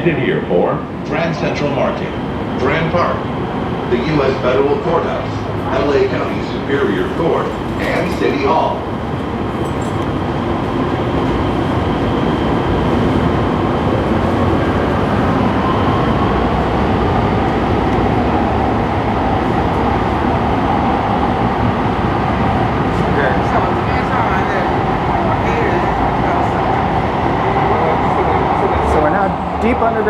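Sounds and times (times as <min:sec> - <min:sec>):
train wheels rumbling on rail: 0:00.2 - 0:30.0.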